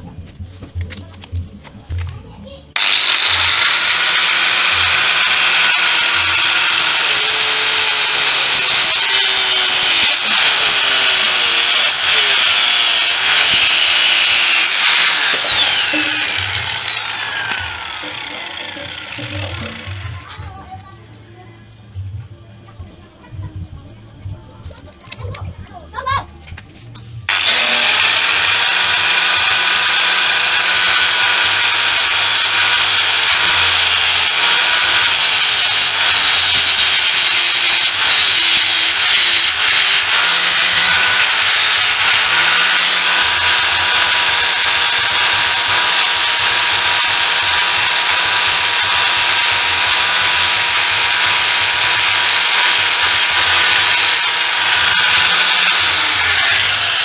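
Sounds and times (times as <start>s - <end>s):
power tool motor whining: 2.8s - 20.2s, 27.3s - 57.0s.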